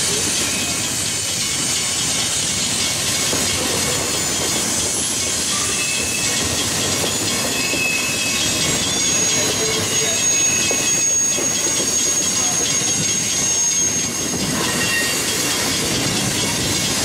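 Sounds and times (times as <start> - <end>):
train wheels rumbling on rails: 0.0 - 17.0
high-pitched wheel squeals: 0.1 - 2.9, 3.6 - 17.0.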